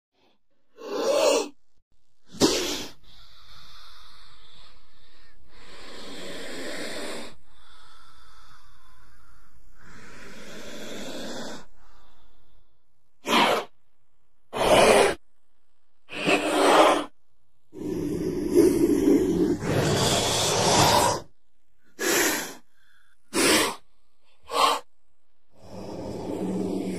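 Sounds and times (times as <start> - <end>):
snake hissing: 2.3 - 12.6, 13.2 - 13.8, 14.5 - 15.2, 16.1 - 26.9.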